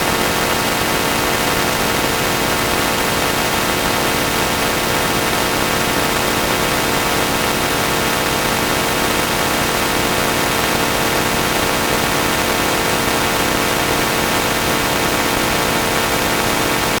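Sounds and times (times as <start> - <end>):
distorted noise with held tones: 0.0 - 17.0.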